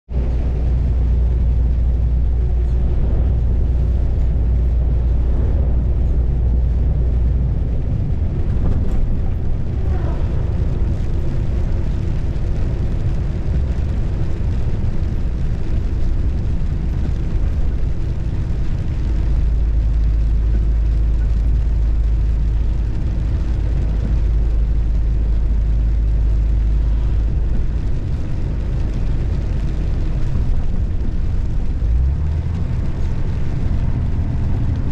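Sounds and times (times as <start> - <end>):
car road noise rumble: 0.0 - 34.9
wind noise: 0.1 - 34.9.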